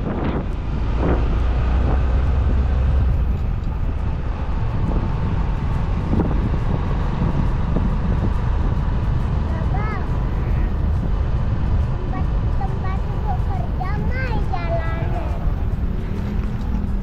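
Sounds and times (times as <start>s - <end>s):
vehicle engine rumbling: 0.0s - 17.0s
wind buffeting microphone: 0.0s - 17.0s.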